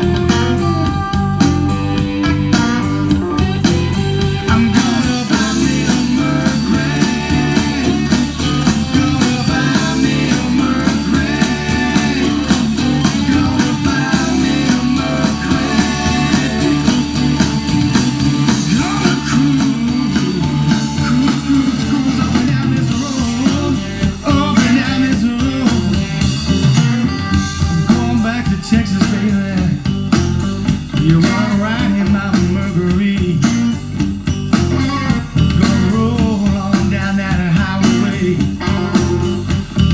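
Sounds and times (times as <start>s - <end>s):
blues rock song over loudspeakers: 0.0s - 39.9s.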